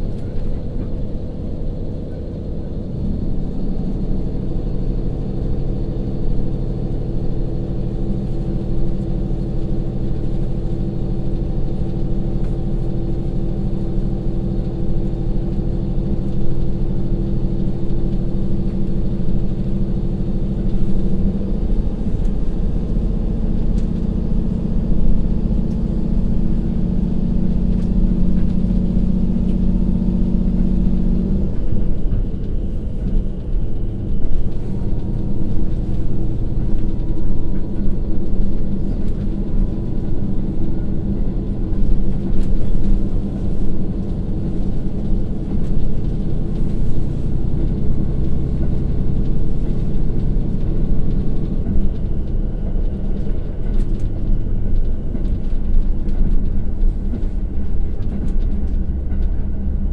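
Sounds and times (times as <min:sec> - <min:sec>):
diesel railcar engine working: 0:00.0 - 0:59.9.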